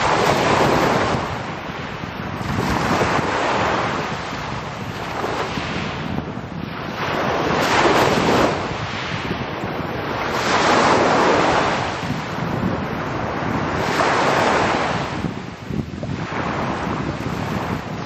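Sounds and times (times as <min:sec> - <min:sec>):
small waves breaking on shore: 0:00.0 - 0:18.0.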